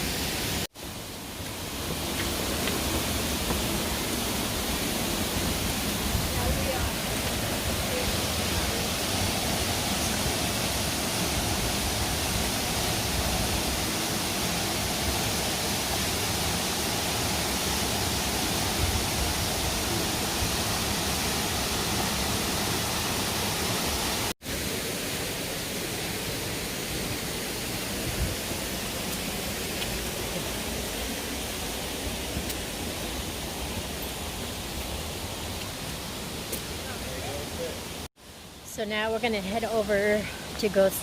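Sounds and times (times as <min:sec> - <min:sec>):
waterfall rushing: 0:00.0 - 0:38.6.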